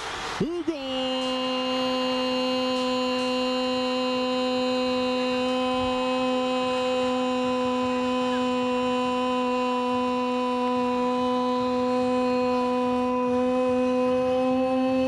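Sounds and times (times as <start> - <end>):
steady hum-like tone: 0.0 - 15.0.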